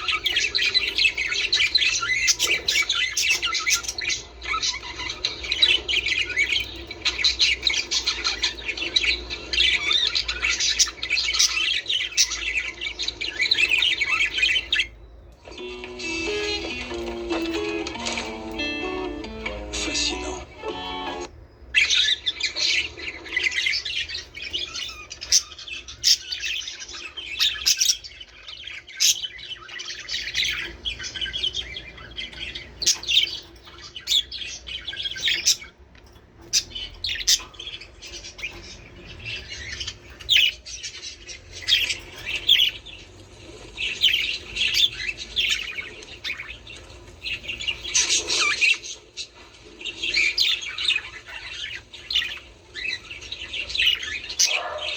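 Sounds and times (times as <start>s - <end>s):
budgerigars chattering: 0.0s - 54.9s.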